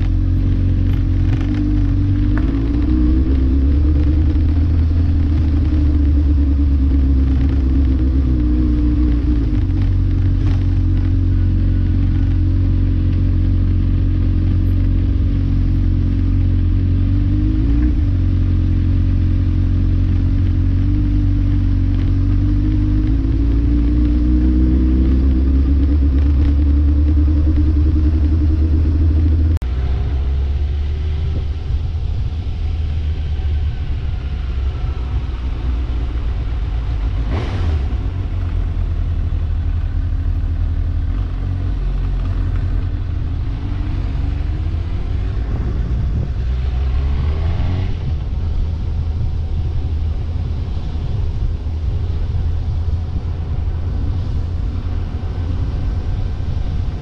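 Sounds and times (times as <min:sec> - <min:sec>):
road noise: 0:00.0 - 0:57.0
vehicle engine: 0:00.0 - 0:57.0.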